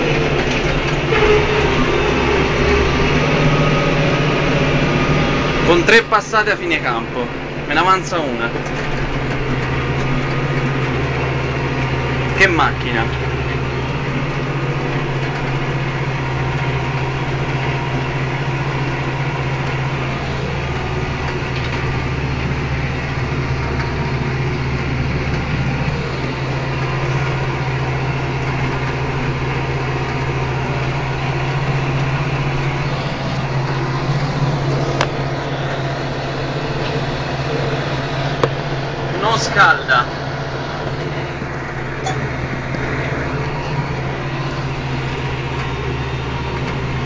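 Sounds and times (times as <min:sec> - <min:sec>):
diesel tractor engine running: 0:00.0 - 0:47.0.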